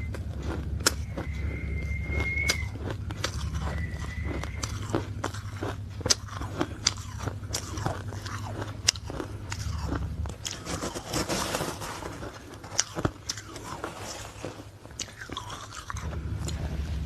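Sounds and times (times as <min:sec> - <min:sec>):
ice crunching between teeth: 0:00.0 - 0:17.0
low steady hum: 0:00.0 - 0:17.0.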